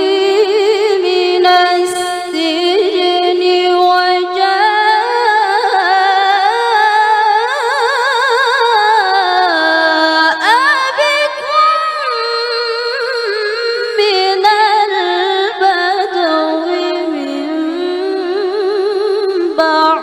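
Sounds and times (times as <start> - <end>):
woman chanting into a microphone: 0.0 - 20.0.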